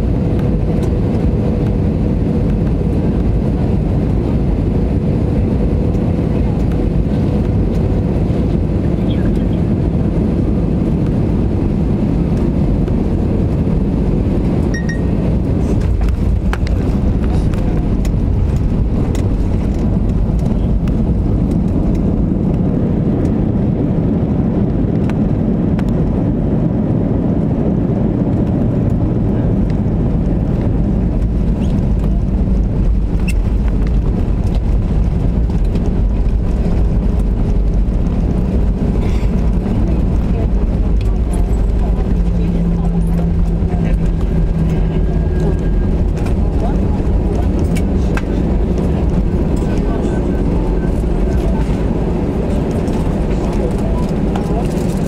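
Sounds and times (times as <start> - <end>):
jet engines rumbling: 0.0 - 55.0
wheels on runway: 0.0 - 55.0.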